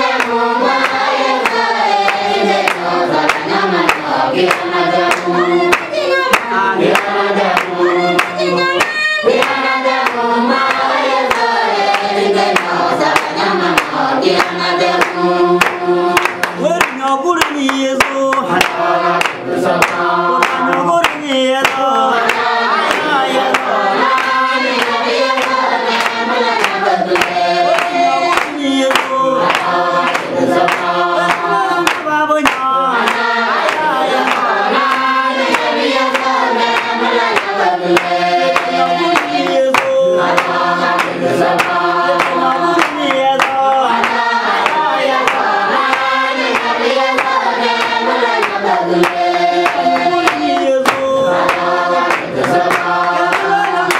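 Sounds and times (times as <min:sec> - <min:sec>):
choir singing: 0:00.0 - 0:53.9
rhythmic handclapping: 0:00.0 - 0:53.9.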